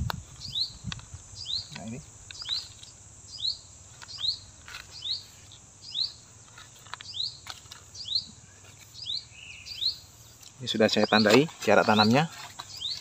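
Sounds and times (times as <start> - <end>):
bird chirping: 0.0 - 13.0
steady high hiss: 0.0 - 13.0.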